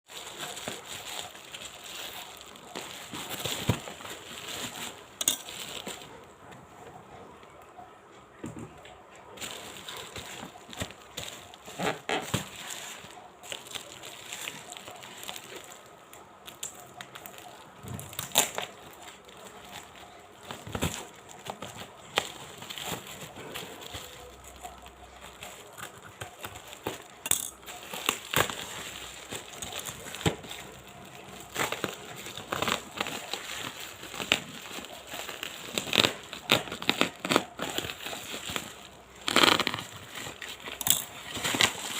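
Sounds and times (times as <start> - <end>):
packaging rustling: 0.0 - 6.6, 9.3 - 41.9.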